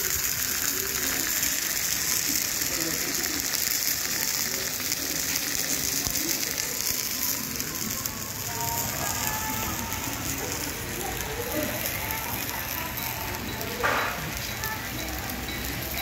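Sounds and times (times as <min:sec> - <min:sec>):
fish sizzling on hot plate: 0:00.0 - 0:16.0.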